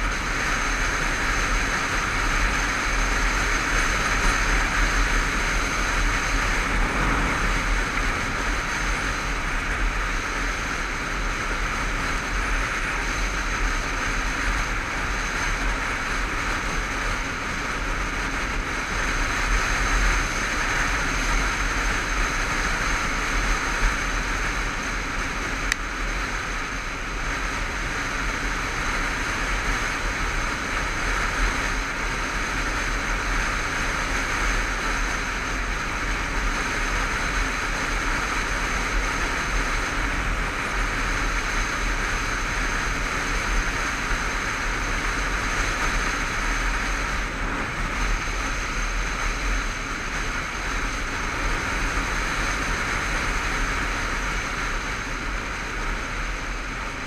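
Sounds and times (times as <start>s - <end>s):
motorcycle engine running: 0.0s - 57.0s
road noise: 0.0s - 57.0s
wind rush: 0.0s - 57.0s.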